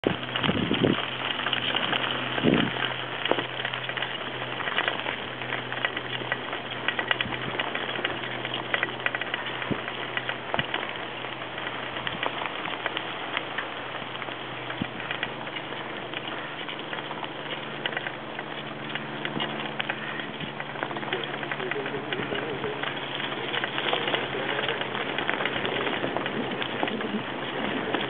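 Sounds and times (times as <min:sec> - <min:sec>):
bicycle tyres on sandy trail: 0:00.0 - 0:28.0
bike rattling: 0:00.0 - 0:28.0
steady low hum: 0:00.0 - 0:28.0.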